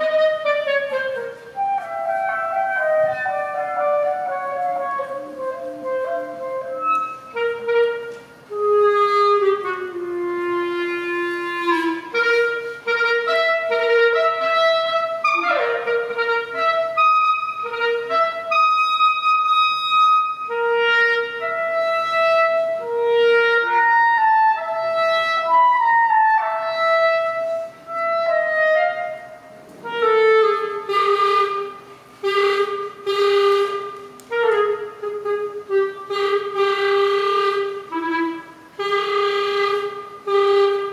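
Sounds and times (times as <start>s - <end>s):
solo clarinet melody: 0.0s - 40.9s.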